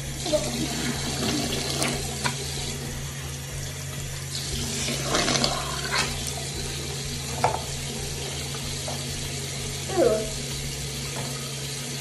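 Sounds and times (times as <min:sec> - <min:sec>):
sink tap running: 0:00.0 - 0:12.0.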